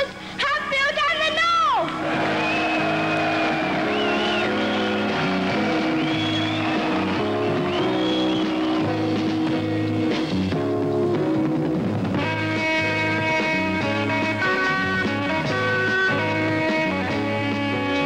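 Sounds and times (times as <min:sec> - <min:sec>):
rock band playing: 0:02.0 - 0:18.0.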